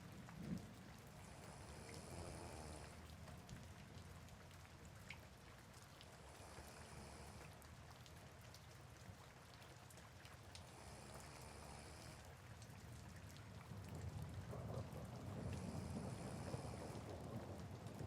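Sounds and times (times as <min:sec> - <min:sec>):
raindrop ticks: 0:00.0 - 0:18.0
soft rain: 0:00.0 - 0:18.0.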